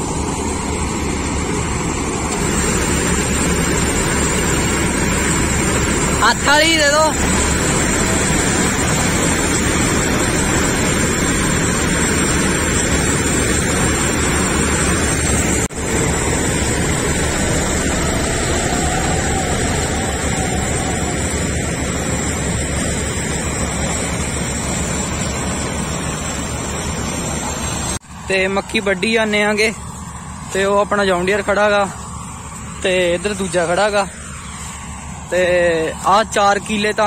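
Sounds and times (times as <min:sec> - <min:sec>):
tractor diesel engine under load: 0:00.0 - 0:37.0.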